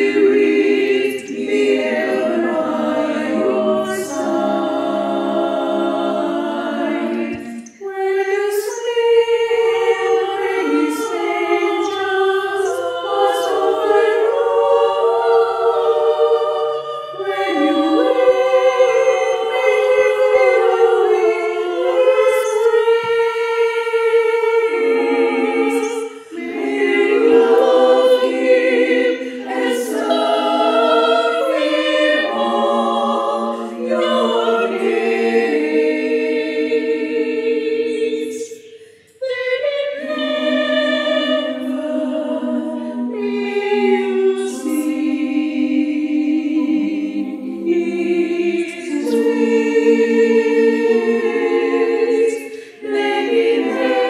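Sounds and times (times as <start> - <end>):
women's choir singing: 0.0 - 54.0.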